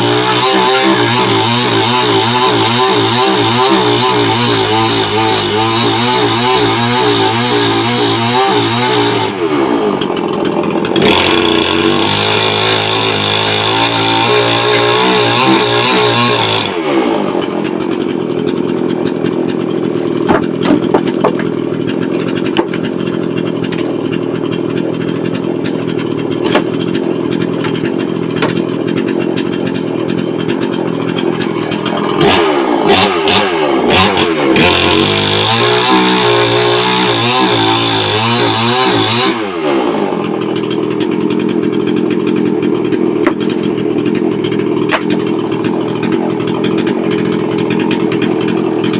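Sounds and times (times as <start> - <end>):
chainsaw running: 0.0 - 48.9.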